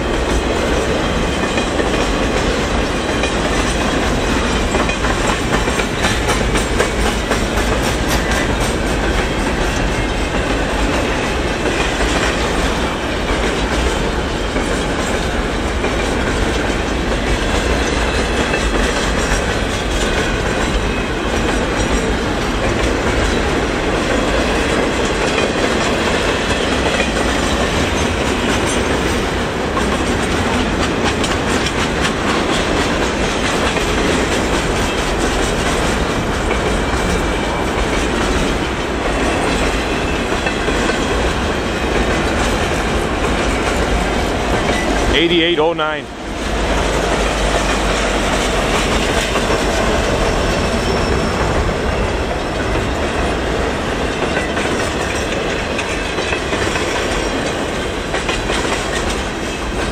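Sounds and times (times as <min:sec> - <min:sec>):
freight train wheels on rails: 0:00.0 - 0:59.9
rail clicks: 0:00.0 - 0:59.9.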